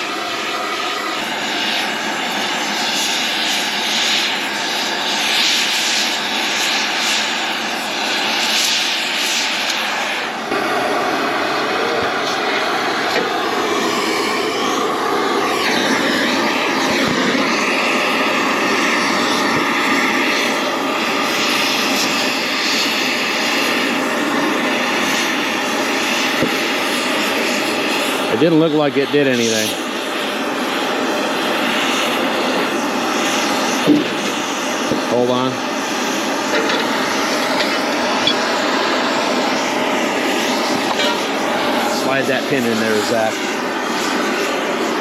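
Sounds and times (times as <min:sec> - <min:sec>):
gas torch flame hissing: 0:00.0 - 0:45.0.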